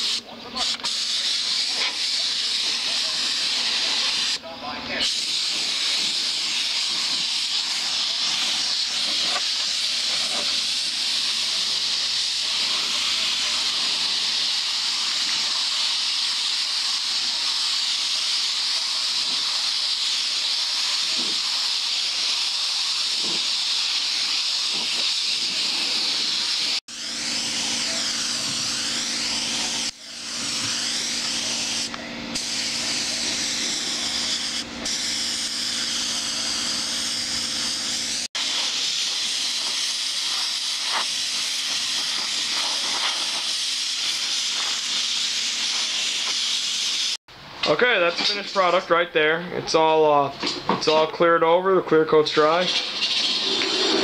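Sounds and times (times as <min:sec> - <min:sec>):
spray gun hissing: 0:00.0 - 0:04.4, 0:05.0 - 0:47.2, 0:52.6 - 0:54.0.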